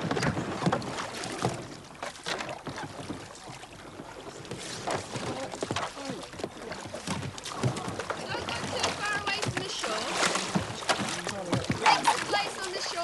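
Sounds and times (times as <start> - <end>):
kayak paddles splashing: 0.0 - 13.0.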